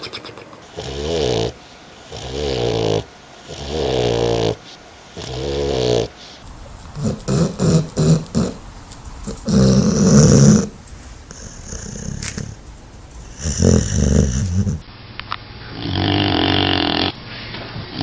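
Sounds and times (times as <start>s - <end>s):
dog snoring: 0.6s - 12.6s, 13.2s - 14.8s, 15.7s - 17.2s.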